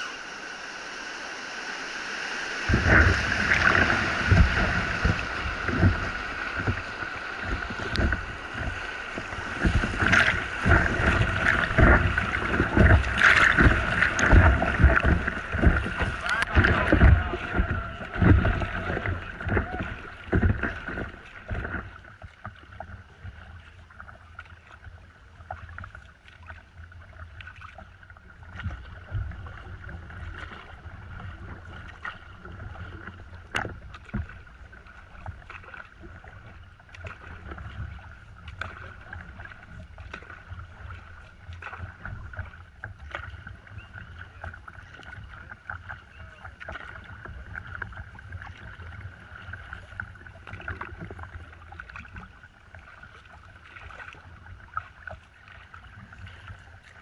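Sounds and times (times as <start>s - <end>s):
paddle strokes and splashes: 0.0s - 57.0s
water lapping at board: 0.0s - 57.0s.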